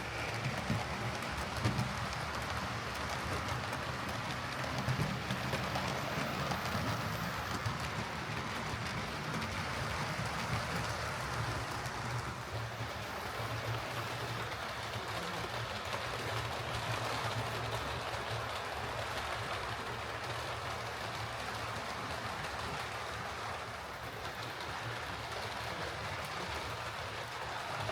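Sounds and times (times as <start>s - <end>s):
model train motor hum: 0.0s - 27.9s
wheels rumbling on rails: 0.0s - 27.9s.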